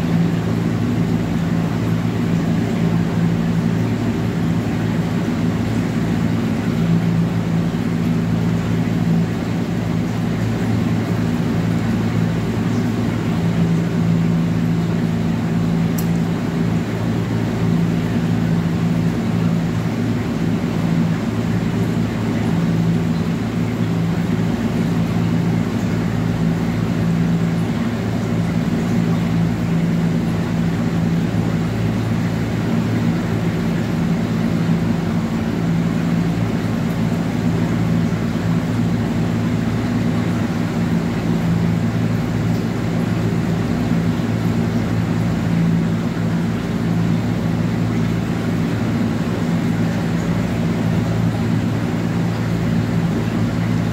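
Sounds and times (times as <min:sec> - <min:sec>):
low mechanical hum: 0:00.0 - 0:53.9.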